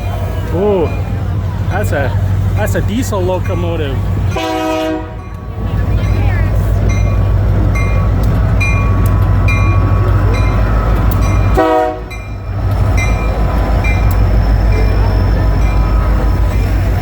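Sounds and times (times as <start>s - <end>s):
diesel locomotive rumbling: 0.0s - 17.0s.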